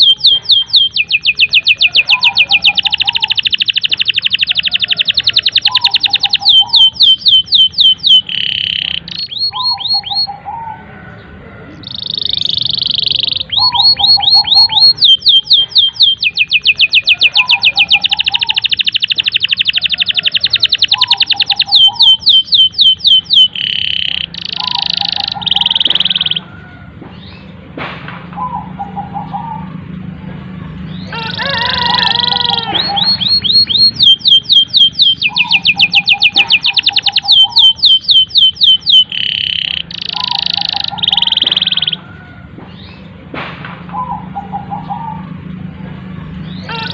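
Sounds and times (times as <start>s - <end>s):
canary singing: 0.0s - 27.6s, 28.4s - 43.2s, 43.9s - 46.9s.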